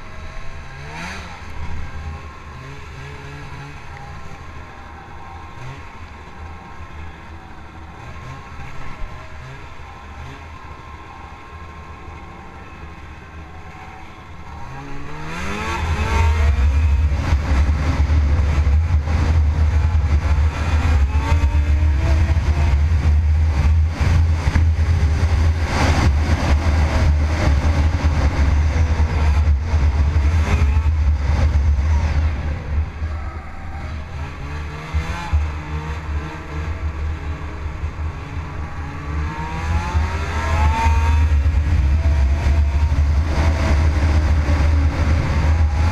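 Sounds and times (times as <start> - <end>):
snowmobile engine revving: 0.0 - 6.2, 13.6 - 45.9.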